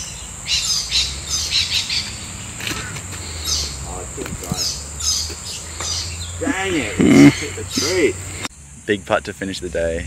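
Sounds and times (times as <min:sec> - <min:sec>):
high-pitched insect drone: 0:00.0 - 0:09.8
birds calling: 0:00.0 - 0:10.0.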